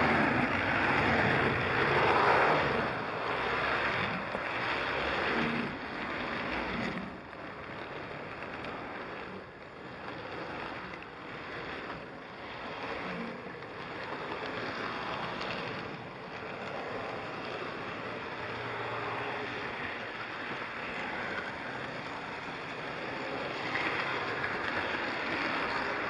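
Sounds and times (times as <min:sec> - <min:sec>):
model train rumbling on track: 0:00.0 - 0:26.0.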